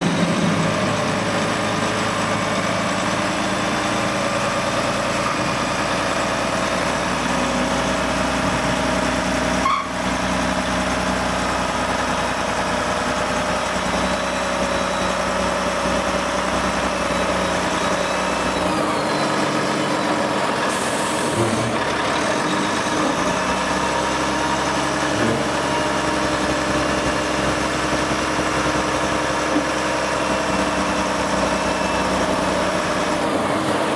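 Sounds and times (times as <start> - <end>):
heavy engine running: 0.0 - 33.9.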